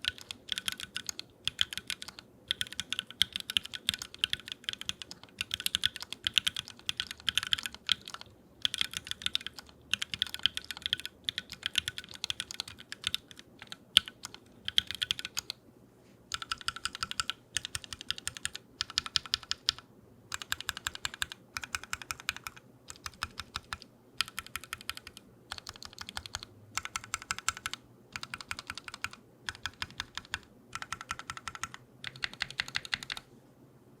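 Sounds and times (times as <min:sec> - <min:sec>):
mechanical keyboard typing: 0:00.0 - 0:15.6, 0:16.3 - 0:33.3.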